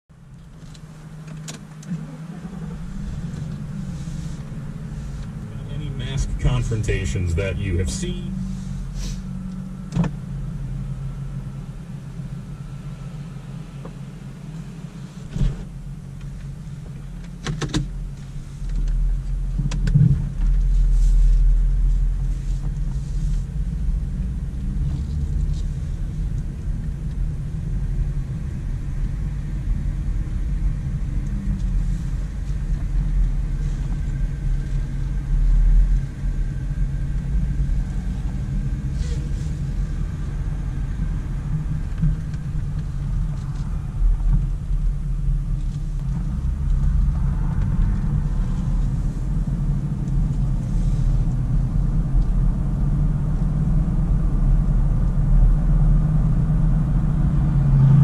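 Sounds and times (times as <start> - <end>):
car engine hum in cabin: 0.1 - 58.0
deep low rumble: 0.1 - 58.0.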